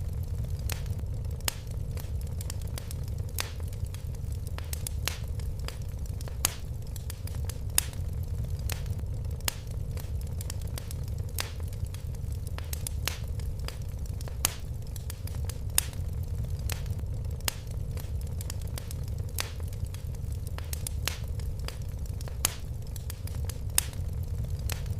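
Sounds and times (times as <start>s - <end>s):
fireplace fire crackling: 0.0s - 24.9s
low rumble of flames: 0.0s - 24.9s
sharp fire pops: 0.0s - 24.9s.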